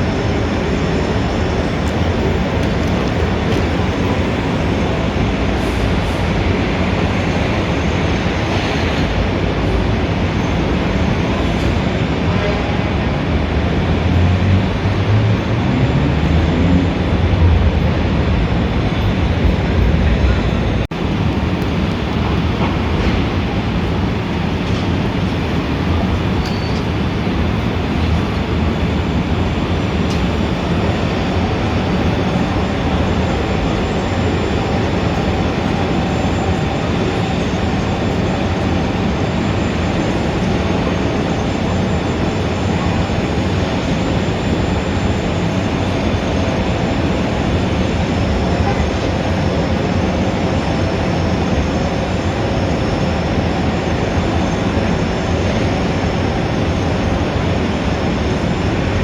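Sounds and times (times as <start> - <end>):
dense city traffic rumble: 0.0 - 59.0.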